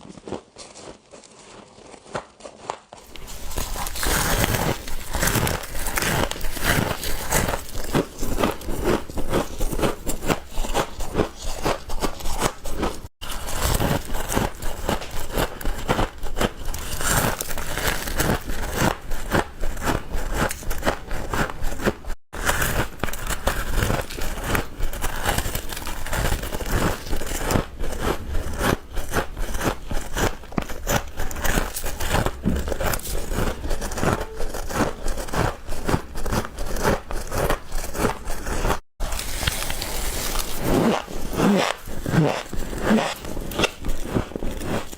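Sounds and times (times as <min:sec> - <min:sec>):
frost being chewed: 0:00.0 - 0:44.9.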